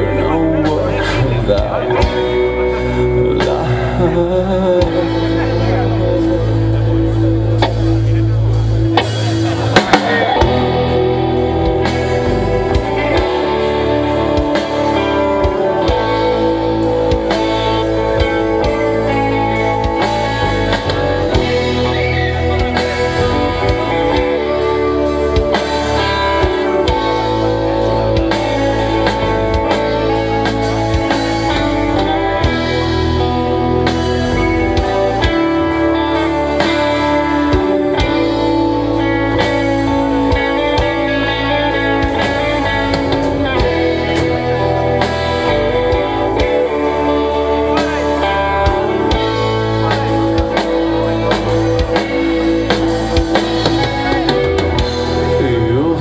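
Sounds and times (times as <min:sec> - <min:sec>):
drum kit: 0:00.0 - 0:56.0
electric guitars: 0:00.0 - 0:56.0
rock band playing live: 0:00.0 - 0:56.0.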